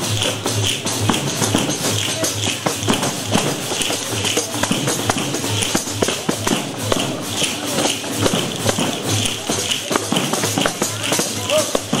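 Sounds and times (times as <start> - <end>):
live folk music: 0.0 - 12.0.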